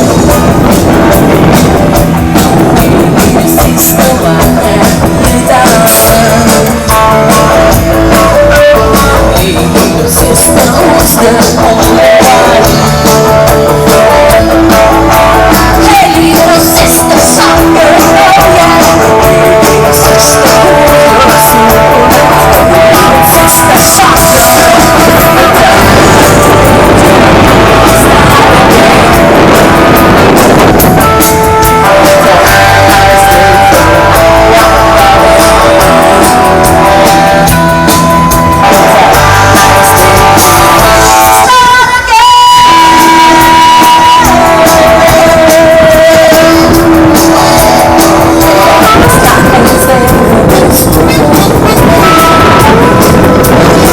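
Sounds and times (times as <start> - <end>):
live rock music: 0.0 - 53.9.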